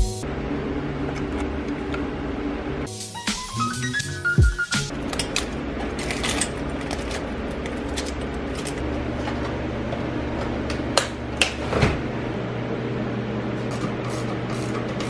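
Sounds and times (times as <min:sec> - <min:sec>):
steady low hum: 0:00.0 - 0:03.0, 0:04.9 - 0:15.0.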